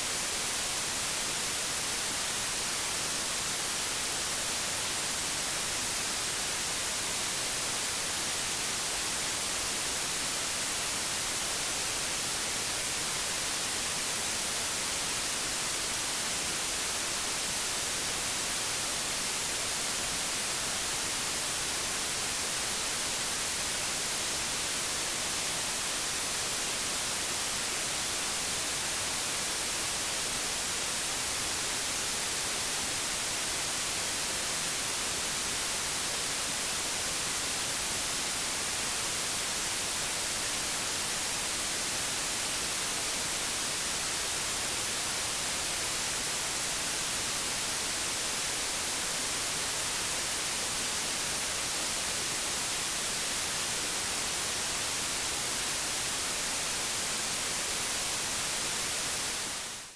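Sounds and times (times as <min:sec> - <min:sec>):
television static hiss: 0:00.0 - 0:59.9.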